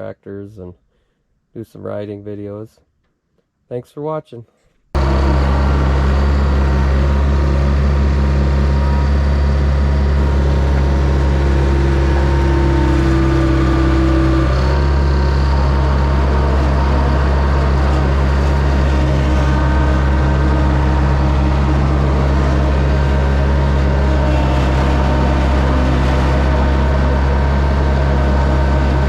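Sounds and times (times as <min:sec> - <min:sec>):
engine running steadily: 0:05.0 - 0:29.0.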